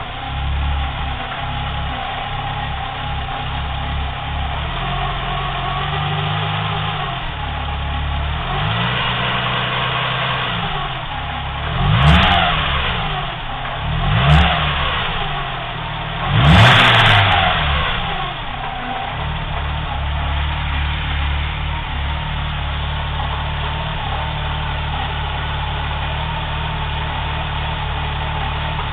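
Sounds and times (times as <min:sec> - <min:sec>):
car engine idling and revving: 0:00.0 - 0:28.9
strange noise from timing belt: 0:00.0 - 0:28.9.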